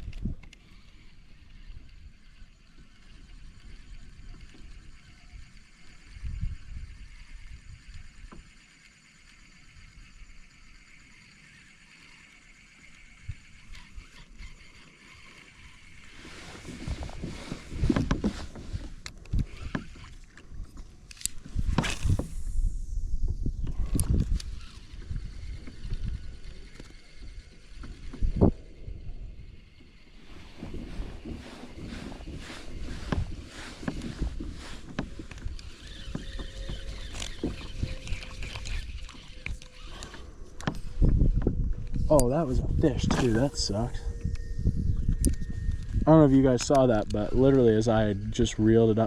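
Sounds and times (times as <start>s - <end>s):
wind buffeting microphone: 3.3s - 8.4s, 13.1s - 49.0s.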